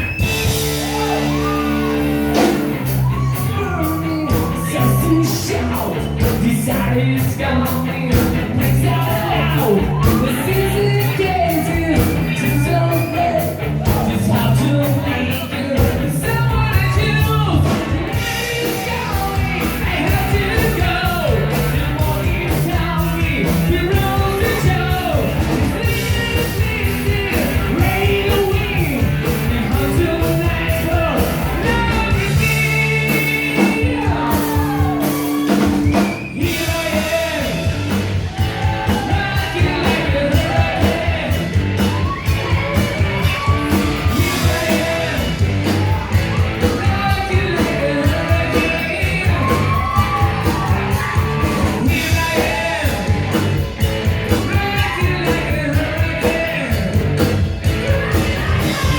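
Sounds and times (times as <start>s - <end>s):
rock music: 0.0s - 58.9s
steady drumbeat: 0.0s - 58.9s
person singing: 0.7s - 58.9s.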